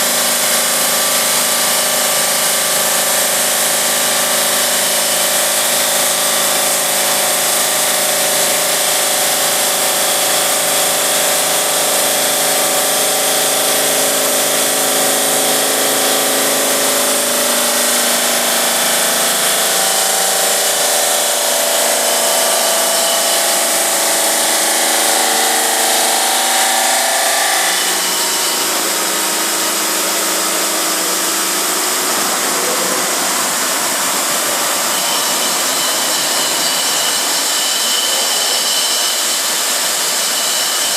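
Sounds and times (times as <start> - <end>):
saw blade whining: 0.0 - 40.9.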